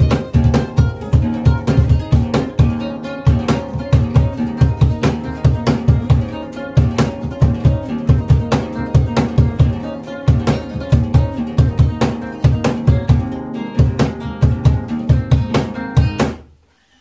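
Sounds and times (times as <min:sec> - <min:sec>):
box drum slaps: 0:00.0 - 0:16.5
box drum thumps: 0:00.0 - 0:16.5
acoustic guitars playing: 0:00.0 - 0:16.9.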